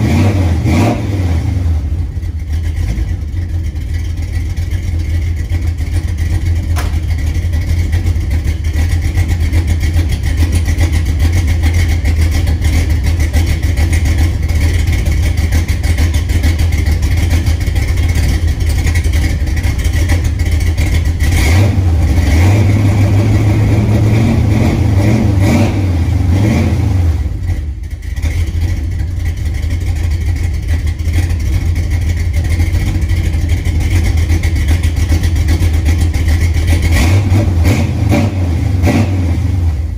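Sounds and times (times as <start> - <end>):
pickup engine idling and revving: 0.0 - 39.9.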